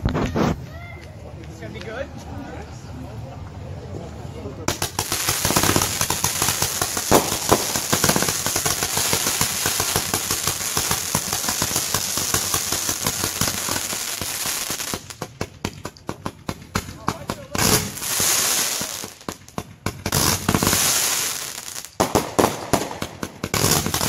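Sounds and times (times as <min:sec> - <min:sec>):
firecrackers popping: 0:00.0 - 0:01.8, 0:04.6 - 0:24.0.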